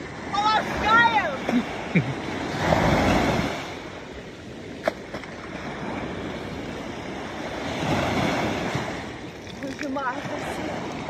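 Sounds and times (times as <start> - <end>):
waves washing up on beach: 0.0 - 11.0.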